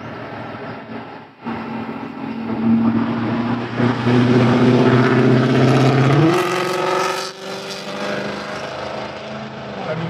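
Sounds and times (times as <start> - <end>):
vehicle engine accelerating: 0.0 - 10.0.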